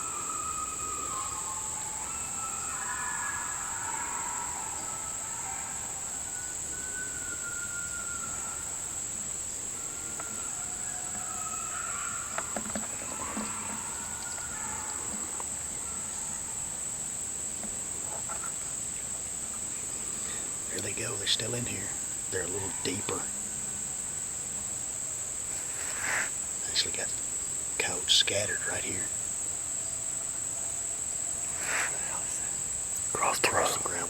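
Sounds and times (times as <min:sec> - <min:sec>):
distant coyotes howling: 0:00.0 - 0:34.0
high-pitched insect drone: 0:00.0 - 0:34.0.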